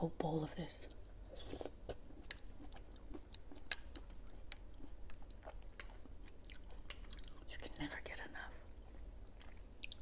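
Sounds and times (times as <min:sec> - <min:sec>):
person chewing wet fruit: 0:00.8 - 0:07.7, 0:08.6 - 0:10.0.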